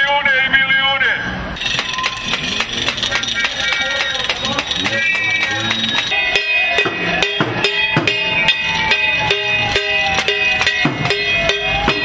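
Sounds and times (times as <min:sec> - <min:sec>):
pots banged with spoons: 0:01.6 - 0:12.0.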